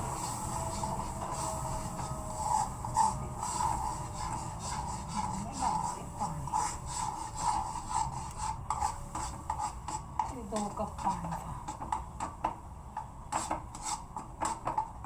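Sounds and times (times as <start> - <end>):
spoon scraping a pan: 0.0 - 12.4, 13.3 - 14.9.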